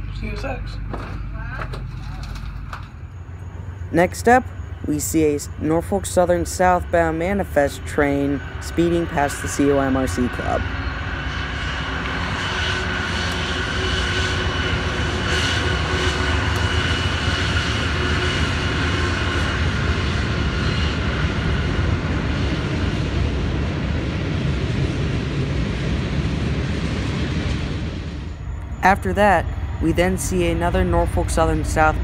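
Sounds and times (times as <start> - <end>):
freight train rumbling by: 0.0 - 32.0
high whine: 0.0 - 32.0.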